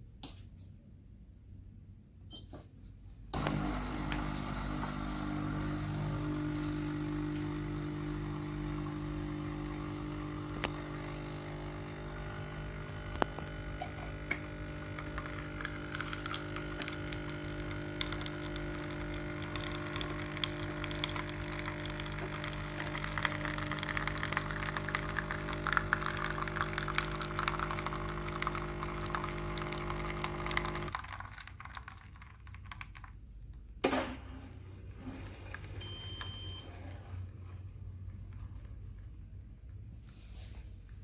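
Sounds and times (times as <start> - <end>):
coffee machine pump humming: 3.3 - 32.1, 34.8 - 39.9.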